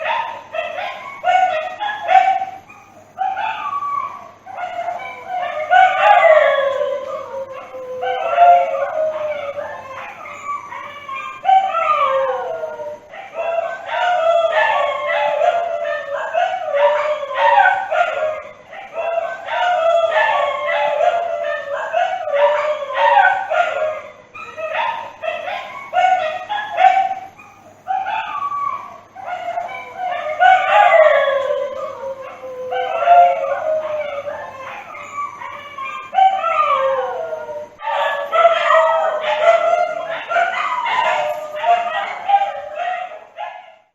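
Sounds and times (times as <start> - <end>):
dogs howling: 0.0 - 43.9.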